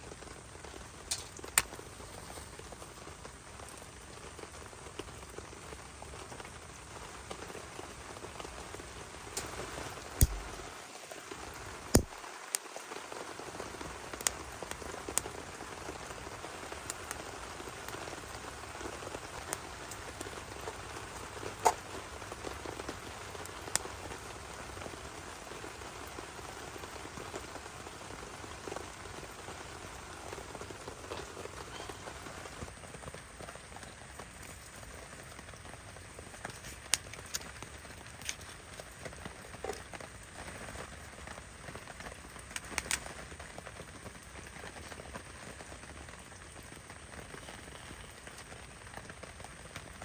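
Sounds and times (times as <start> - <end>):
heavy rain falling: 0.0 - 50.0
sharp taps of raindrops: 0.0 - 50.0.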